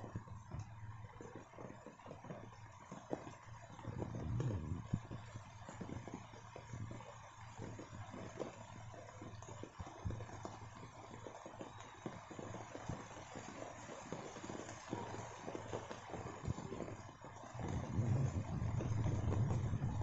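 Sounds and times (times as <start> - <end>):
faint low hum: 0.0 - 11.1, 14.8 - 20.0
rain pattering on leaves: 0.1 - 20.0.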